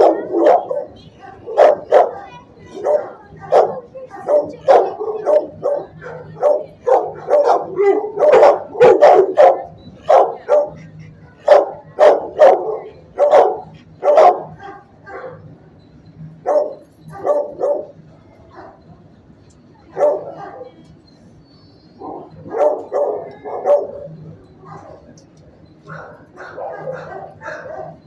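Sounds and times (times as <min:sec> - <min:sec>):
dogs barking: 0:00.0 - 0:15.6, 0:16.2 - 0:19.0, 0:19.9 - 0:20.9, 0:21.9 - 0:28.0.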